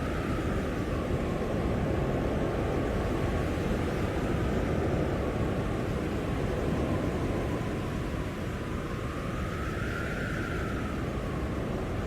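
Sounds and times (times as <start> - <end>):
blizzard wind blowing: 0.0 - 12.0.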